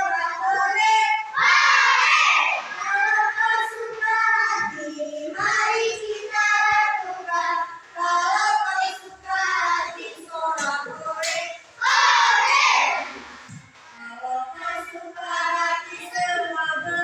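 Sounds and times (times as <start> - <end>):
children singing: 0.0 - 17.0.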